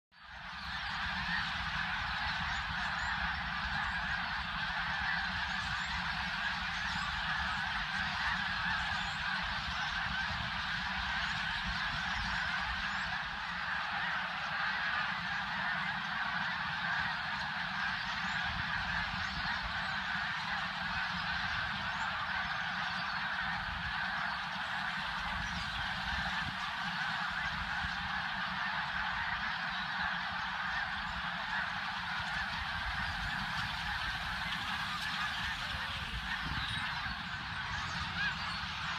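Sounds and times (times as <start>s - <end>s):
geese honking: 0.2s - 38.9s.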